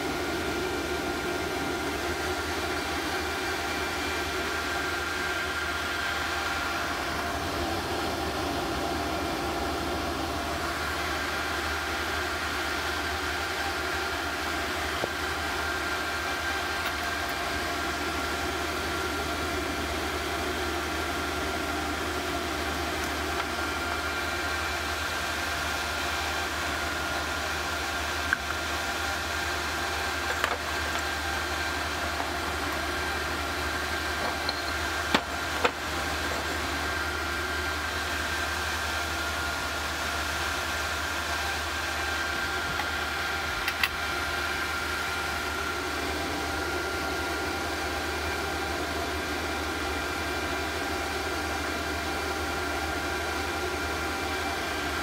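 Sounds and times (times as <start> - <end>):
induction heater hum and hiss: 0.0 - 55.0.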